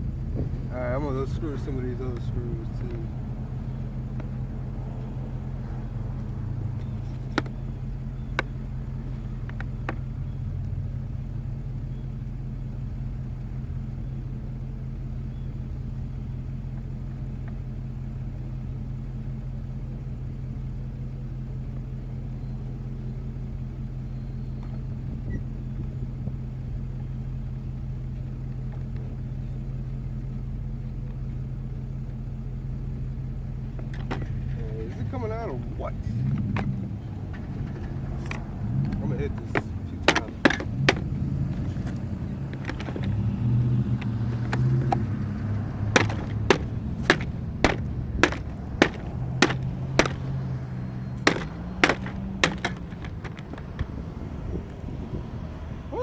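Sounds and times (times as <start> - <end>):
low engine-like drone: 0.0 - 56.0.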